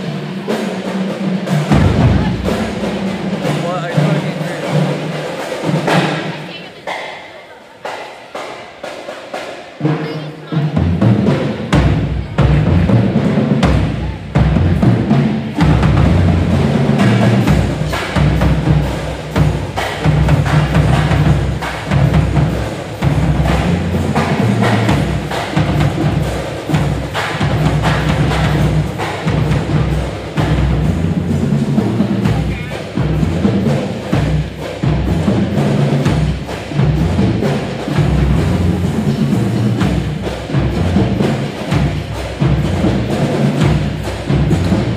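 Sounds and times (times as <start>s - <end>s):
brass band playing: 0.0s - 7.7s, 8.8s - 44.9s
drums keeping a steady beat: 0.0s - 44.9s.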